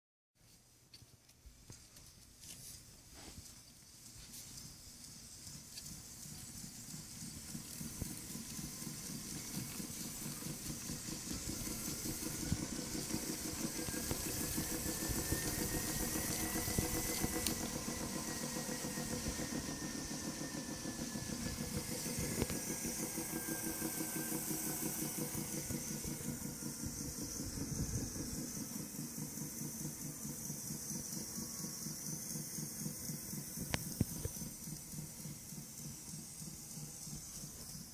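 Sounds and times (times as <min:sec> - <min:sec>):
faint whine: 0:00.5 - 0:37.9
spin bike rapid clicking: 0:01.7 - 0:37.9.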